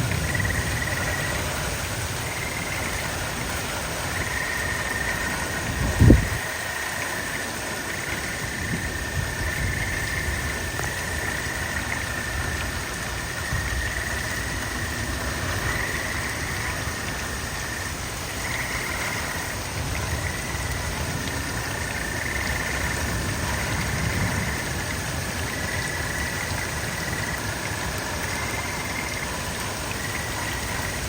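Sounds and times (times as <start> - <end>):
rain rushing: 0.0 - 31.0
frogs trilling in chorus: 0.1 - 1.6, 2.2 - 3.4, 4.0 - 31.0.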